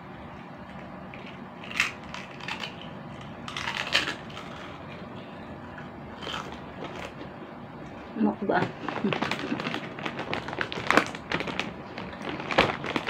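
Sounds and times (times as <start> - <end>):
pork crackling being chewed: 0.7 - 7.4, 8.8 - 13.0.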